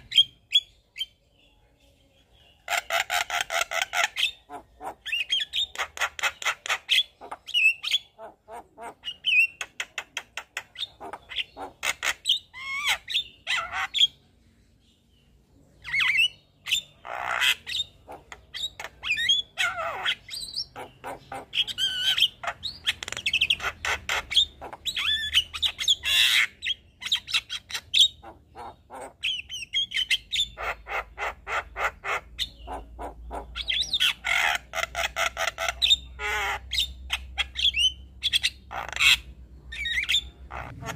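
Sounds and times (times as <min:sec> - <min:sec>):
myna bird singing: 0:00.0 - 0:40.9.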